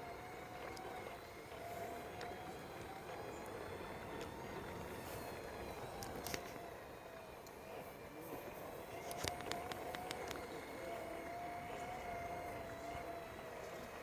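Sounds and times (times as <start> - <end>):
distant road traffic hum: 0.0 - 14.0.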